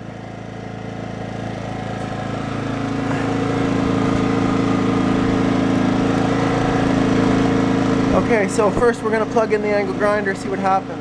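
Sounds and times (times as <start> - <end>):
generator engine drone: 0.0 - 11.0.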